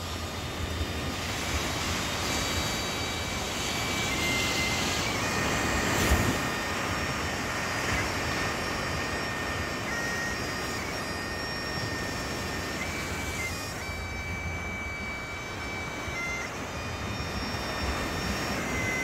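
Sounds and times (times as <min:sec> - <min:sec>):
distant bagpipes playing slow tune: 0:00.0 - 0:19.0
wind: 0:00.0 - 0:19.0.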